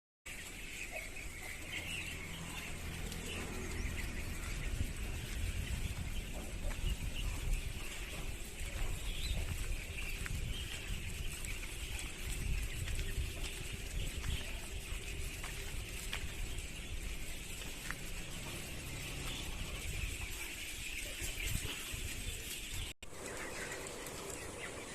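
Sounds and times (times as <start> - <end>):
continuous low rumble: 0.3 - 21.9, 23.1 - 24.9
chickens peeping: 0.3 - 24.9.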